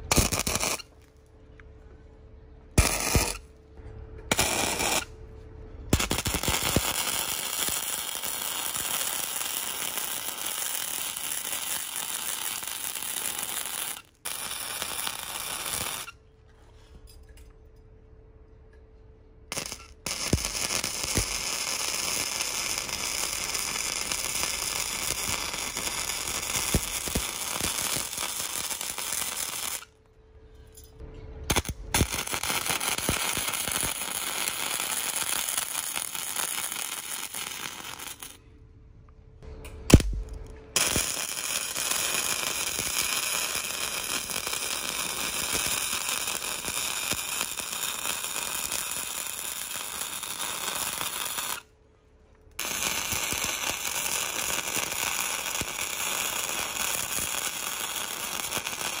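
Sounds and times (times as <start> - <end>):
arc welding crackling: 0.0 - 1.1, 2.8 - 3.5, 4.3 - 5.2, 5.9 - 16.2, 19.5 - 30.0, 31.5 - 38.4, 39.9 - 51.7, 52.6 - 59.0.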